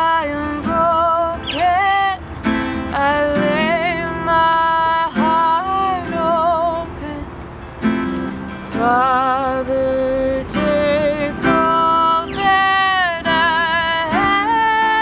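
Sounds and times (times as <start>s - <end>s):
woman singing: 0.0s - 7.4s, 8.7s - 15.0s
strummed acoustic guitar: 0.0s - 15.0s.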